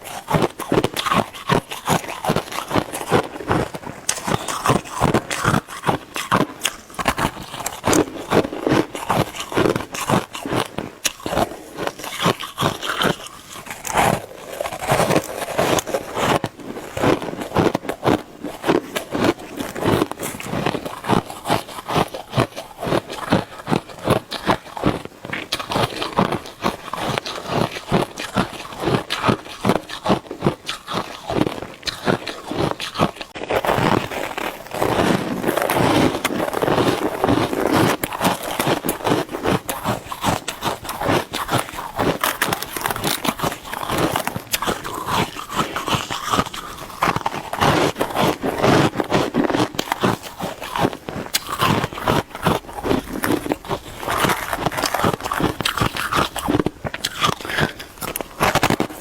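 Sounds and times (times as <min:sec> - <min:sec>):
chewing shaved ice crunches: 0:00.0 - 0:59.0.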